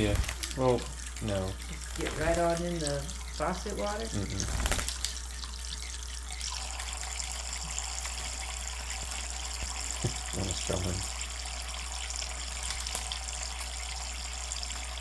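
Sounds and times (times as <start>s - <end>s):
water running from faucet: 0.0s - 15.0s.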